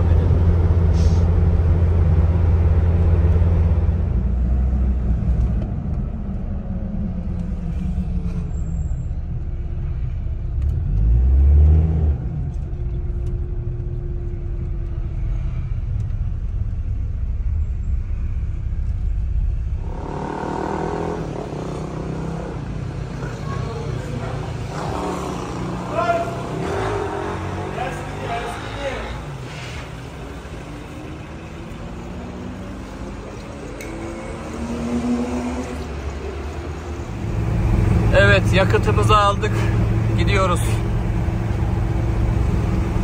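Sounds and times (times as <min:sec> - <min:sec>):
car engine low rumble: 0:00.0 - 0:26.3, 0:27.8 - 0:43.0.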